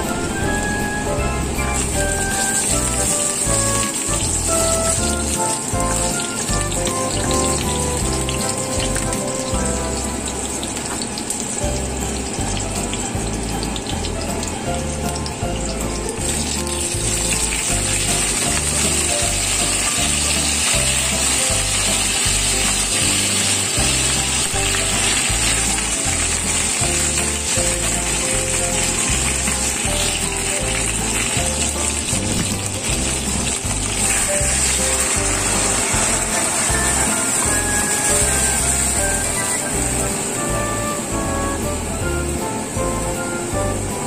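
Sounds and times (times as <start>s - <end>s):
background music with beat: 0.0s - 44.0s
oil sizzling in a wok: 0.0s - 44.0s.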